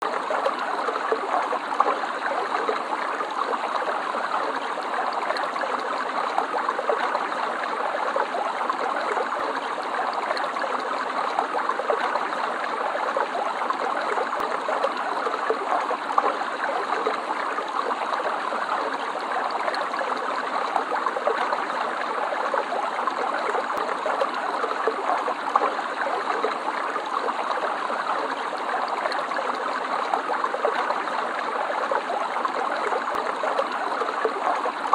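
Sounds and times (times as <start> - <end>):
stream babbling over stones: 0.0 - 34.9.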